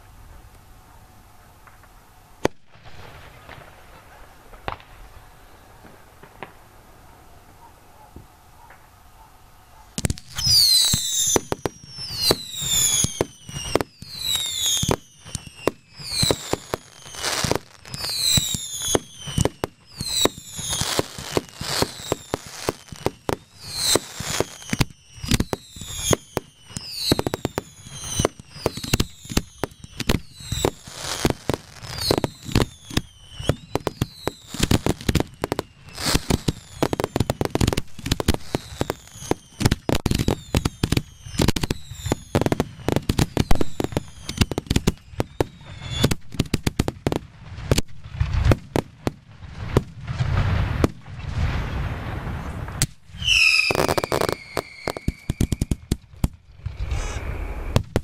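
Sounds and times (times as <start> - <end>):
whistling firework shots: 9.9 - 58.0.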